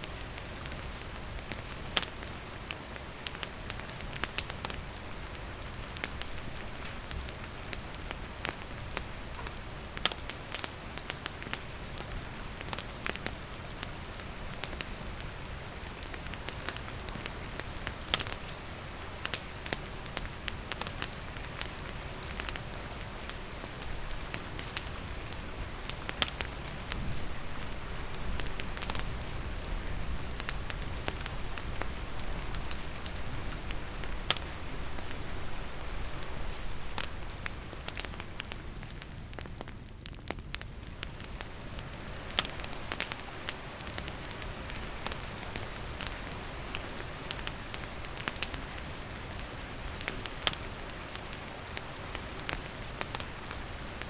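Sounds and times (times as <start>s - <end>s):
campfire crackling and popping: 0.0s - 54.0s
steady rain: 0.0s - 54.0s.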